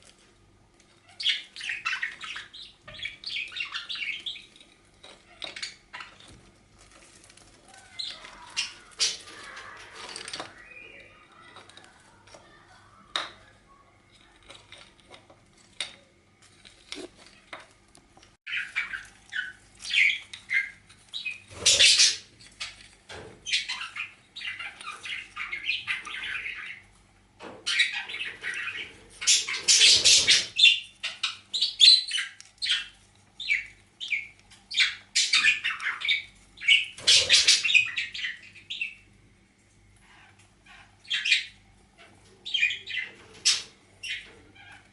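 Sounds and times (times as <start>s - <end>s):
pet birds chattering and squawking: 0.0s - 44.9s.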